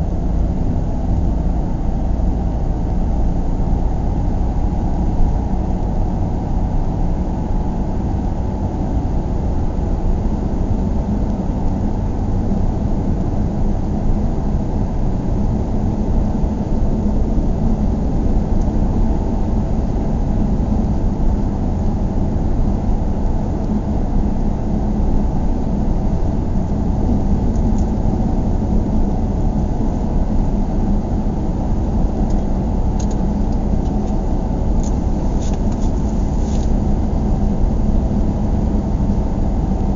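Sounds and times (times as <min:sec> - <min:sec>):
road rumble inside car: 0:00.0 - 0:39.9.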